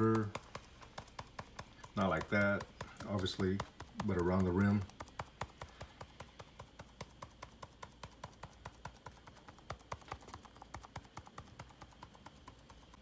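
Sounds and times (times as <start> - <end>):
sifter clicking: 0.0 - 13.0.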